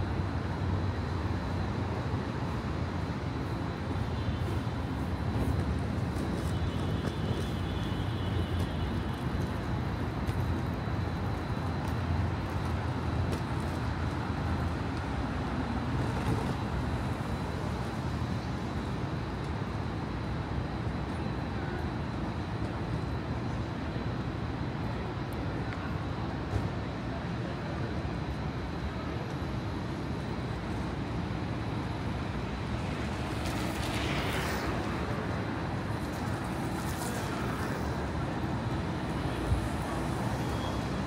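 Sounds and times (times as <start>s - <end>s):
low rumble of passing traffic: 0.0s - 41.0s.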